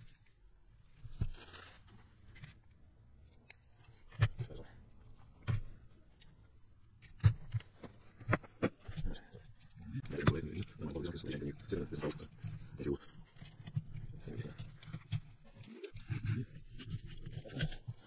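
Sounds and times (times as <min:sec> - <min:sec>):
clicks and knocks of handled parts: 0:01.0 - 0:18.0.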